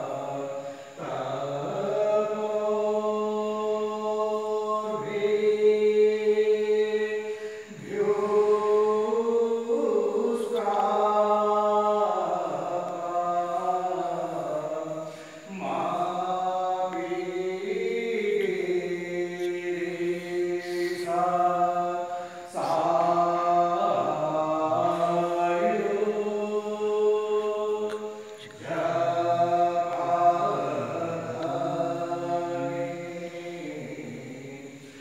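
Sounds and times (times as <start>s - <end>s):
devotional chanting: 0.0s - 35.0s.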